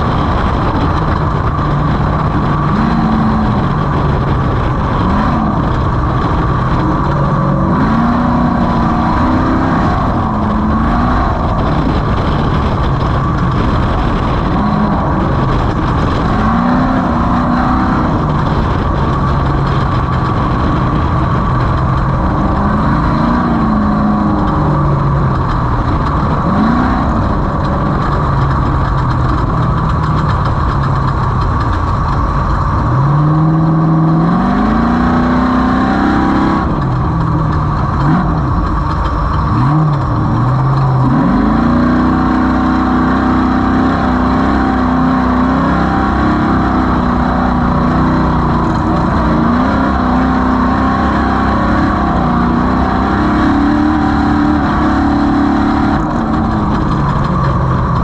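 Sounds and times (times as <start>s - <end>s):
race vehicle engine accelerating: 0.0s - 58.0s.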